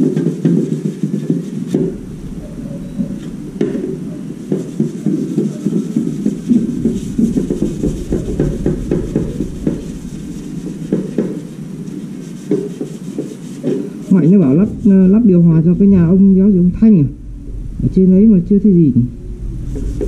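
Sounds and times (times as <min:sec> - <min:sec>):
steady low rumble: 0:01.7 - 0:20.0.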